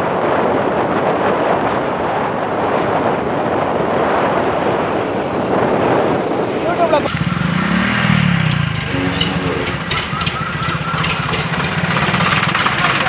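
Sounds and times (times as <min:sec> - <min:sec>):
wind blowing on microphone: 0:00.0 - 0:10.9.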